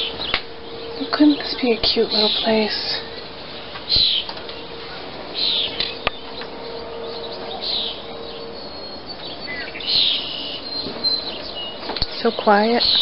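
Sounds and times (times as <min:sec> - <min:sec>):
bird chirping: 0:00.0 - 0:13.0
faint steady hum: 0:00.0 - 0:13.0.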